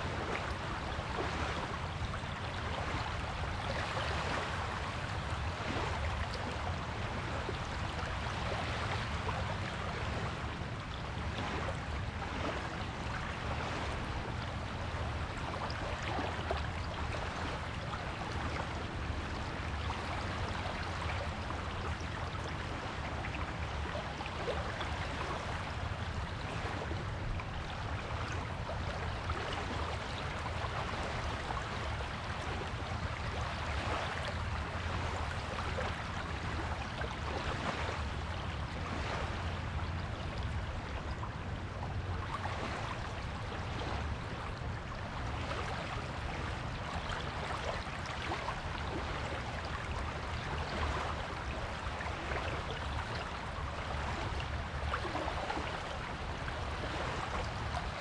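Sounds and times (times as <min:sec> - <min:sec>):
surf washing on a beach: 0:00.0 - 0:58.0.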